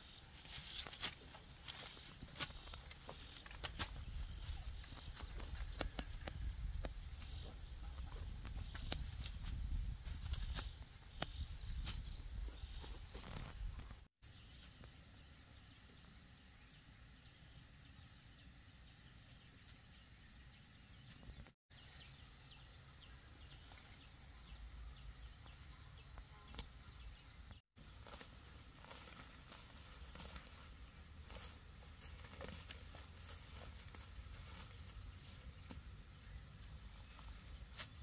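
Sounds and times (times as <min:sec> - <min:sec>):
faint outdoor ambience: 0:00.0 - 0:38.0.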